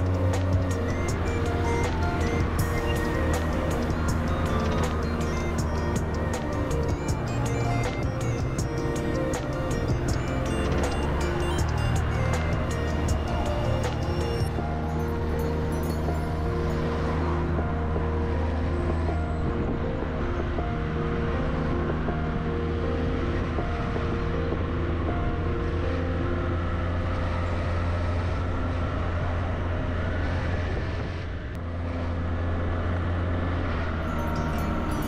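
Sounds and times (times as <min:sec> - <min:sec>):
vehicle driving with road noise: 0:00.0 - 0:35.0.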